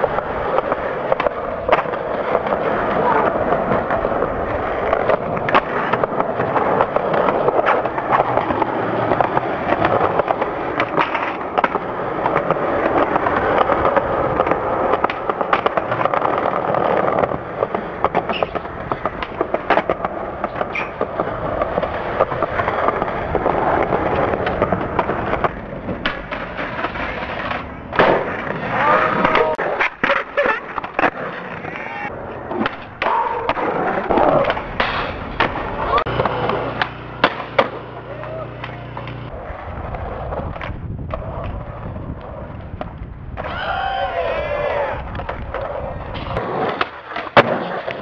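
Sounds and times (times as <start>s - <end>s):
skateboard clacking on ground: 0.0s - 48.0s
skateboard wheels rolling on concrete: 0.0s - 48.0s.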